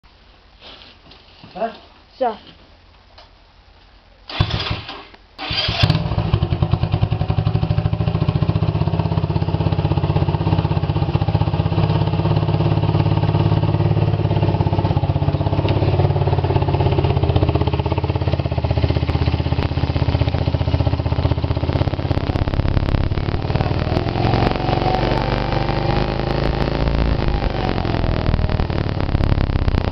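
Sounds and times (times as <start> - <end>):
motorcycle engine starting and idling: 4.3 - 29.9.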